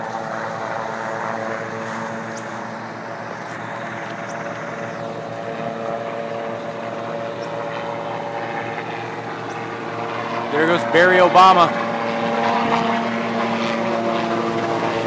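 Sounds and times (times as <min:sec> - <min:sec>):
helicopter rotor and engine drone: 0:00.0 - 0:15.0.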